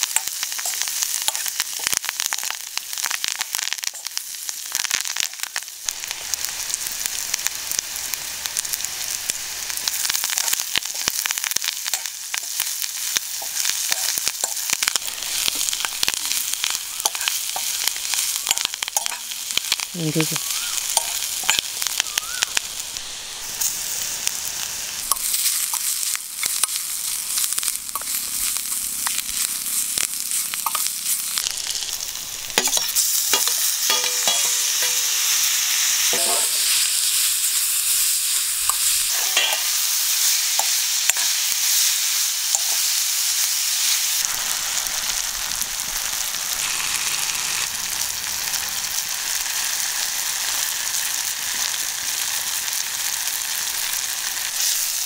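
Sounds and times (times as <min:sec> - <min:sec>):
vegetables sizzling in a wok: 0:00.0 - 0:55.0.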